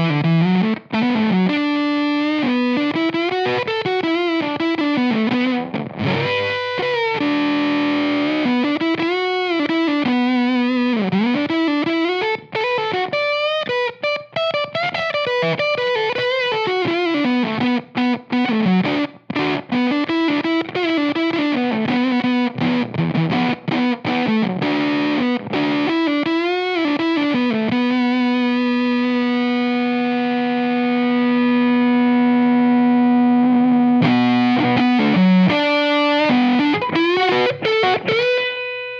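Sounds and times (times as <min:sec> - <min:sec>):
distorted electric guitar lead: 0:00.0 - 0:38.9.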